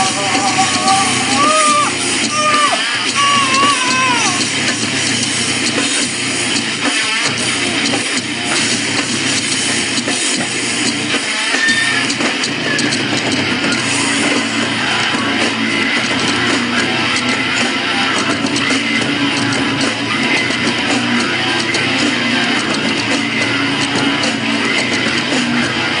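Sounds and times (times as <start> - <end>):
distorted electric guitar: 0.0 - 26.0
drum kit: 0.0 - 26.0.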